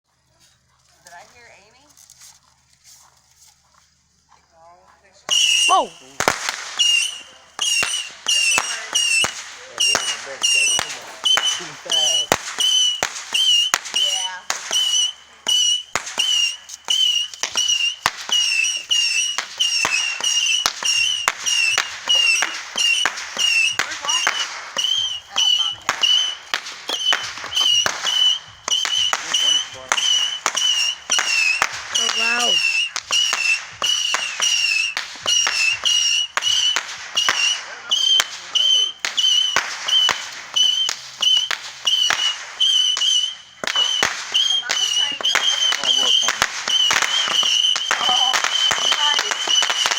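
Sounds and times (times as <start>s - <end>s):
fireworks cracking and banging: 5.1s - 49.9s
high whistle-like tone: 5.3s - 6.2s, 6.8s - 49.9s.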